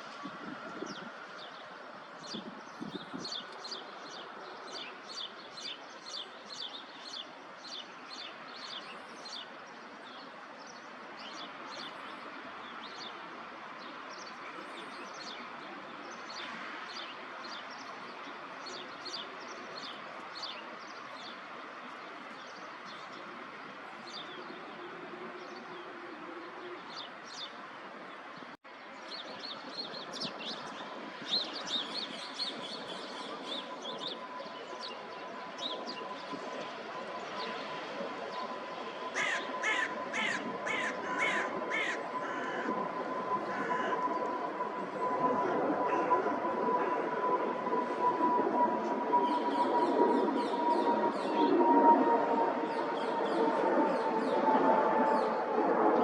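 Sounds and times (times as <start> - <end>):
city park background hum: 0.0 - 56.0.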